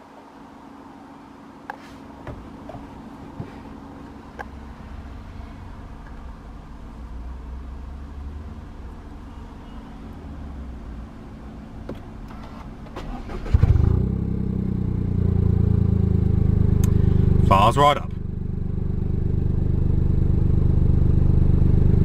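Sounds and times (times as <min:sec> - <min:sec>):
car engine idling: 0:01.2 - 0:22.0.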